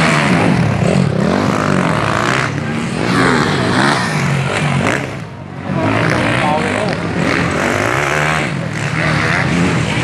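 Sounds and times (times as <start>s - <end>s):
motocross bikes revving: 0.0s - 10.0s.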